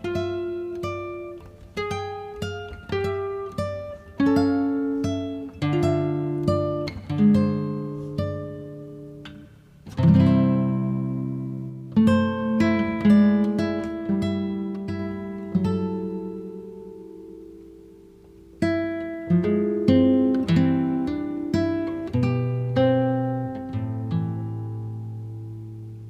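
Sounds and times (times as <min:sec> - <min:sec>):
plucked acoustic guitar: 0:00.0 - 0:26.0.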